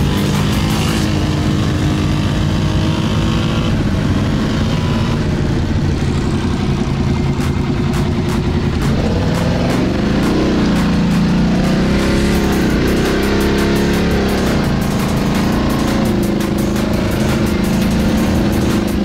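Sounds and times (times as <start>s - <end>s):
quad engine under throttle: 0.0s - 19.0s.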